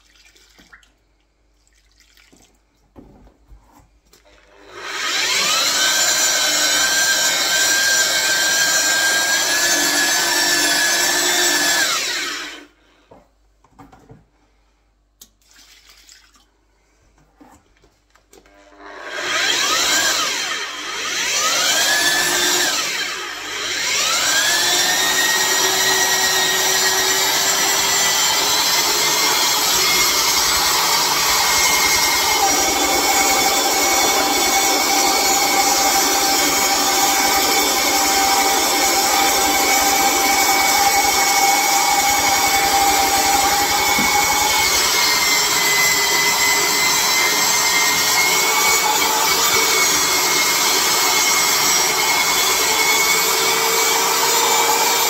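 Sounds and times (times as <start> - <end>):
electric paddle mixer motor whining: 4.4 - 12.7, 18.5 - 55.0.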